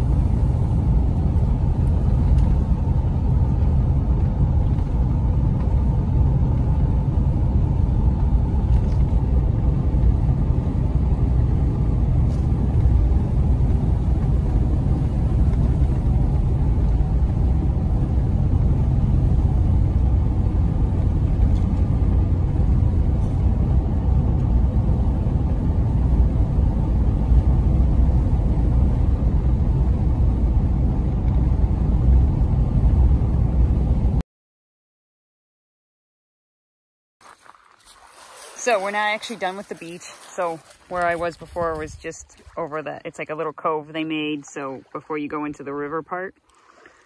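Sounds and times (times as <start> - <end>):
vehicle engine and road noise: 0.0 - 34.2, 37.2 - 47.0.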